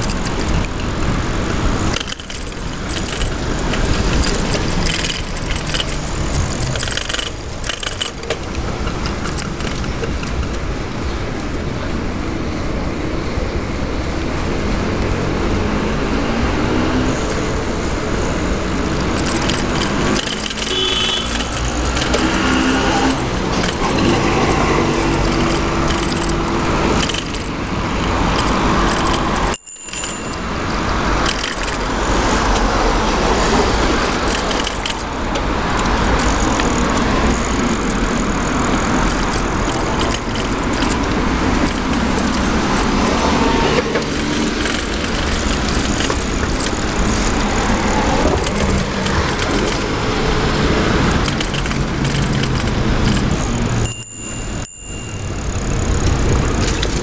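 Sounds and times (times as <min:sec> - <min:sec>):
chain lock rattling: 0:00.0 - 0:10.2, 0:17.1 - 0:50.0, 0:51.0 - 0:57.0
cars passing: 0:00.0 - 0:57.0.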